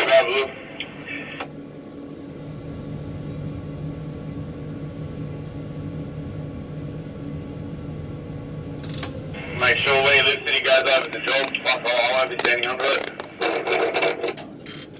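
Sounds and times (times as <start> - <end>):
crane hoist drive humming: 0.0 - 14.9.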